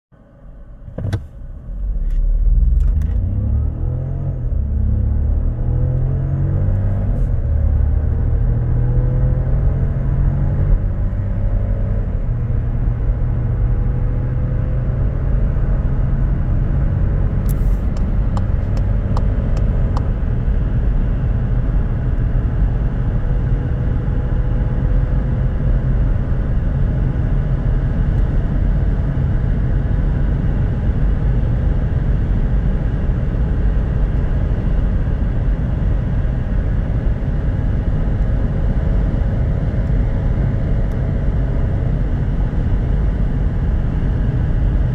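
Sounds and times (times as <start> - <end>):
car engine accelerating: 0.2 - 44.9
road and wind noise: 0.2 - 44.9.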